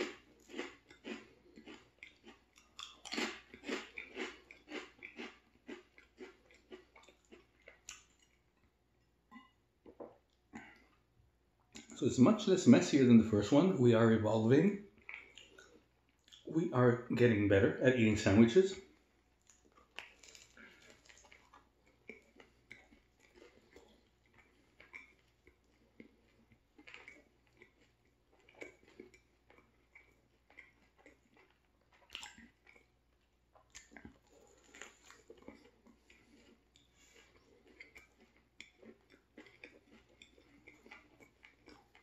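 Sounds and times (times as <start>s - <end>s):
person chewing sandwich: 0.0s - 12.0s, 14.9s - 16.5s, 18.8s - 42.0s.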